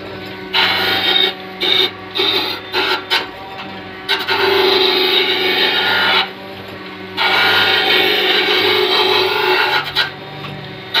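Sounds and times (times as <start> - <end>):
motor hum: 0.0 - 11.0
cutter scraping metal: 0.3 - 11.0.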